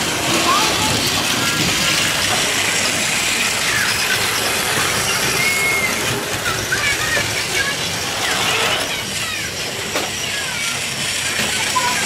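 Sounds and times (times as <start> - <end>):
toy trains whirring and rattling: 0.0 - 12.0.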